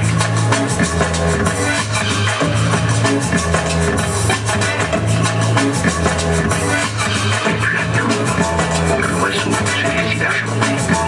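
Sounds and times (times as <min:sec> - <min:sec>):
electronic music with bass: 0:00.0 - 0:11.0.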